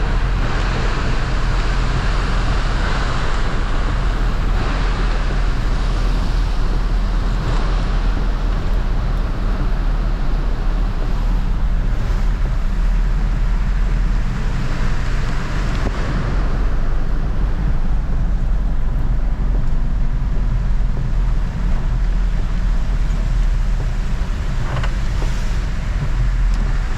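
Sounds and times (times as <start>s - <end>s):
vehicle engine and road noise: 0.0s - 26.9s.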